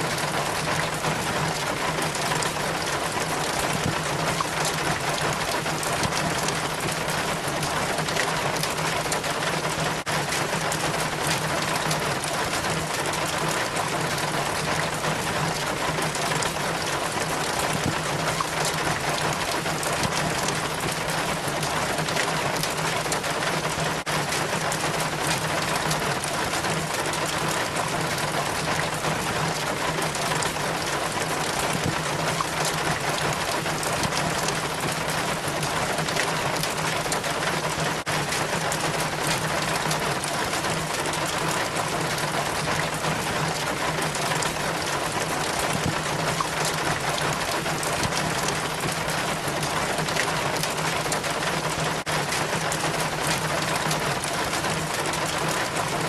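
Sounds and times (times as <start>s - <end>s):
falling rain: 0.0s - 56.0s
water splashing down rain chain: 0.0s - 56.0s.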